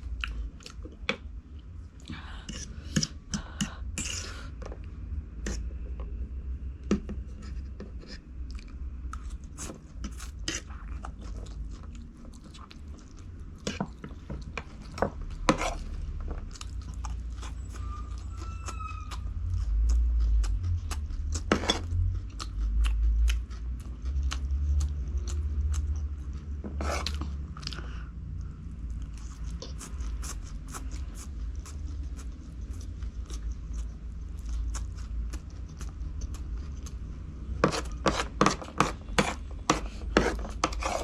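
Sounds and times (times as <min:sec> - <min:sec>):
chewing and crunching food: 0:00.0 - 0:04.3, 0:07.4 - 0:41.0.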